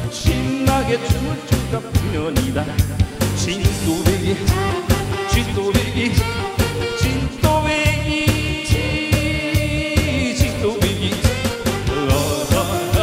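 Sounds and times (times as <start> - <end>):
upbeat trot music over loudspeakers: 0.0 - 13.0.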